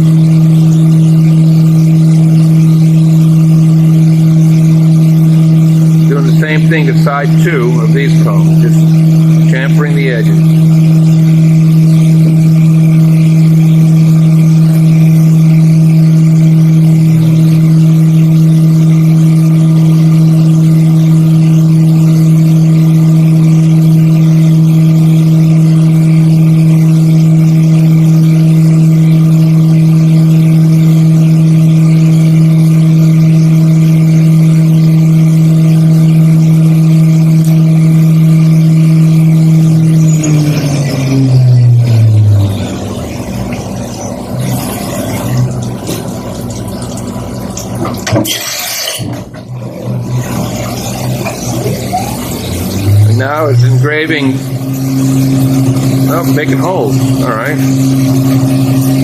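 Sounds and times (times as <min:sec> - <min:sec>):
milling machine spindle humming: 0:00.0 - 0:59.0.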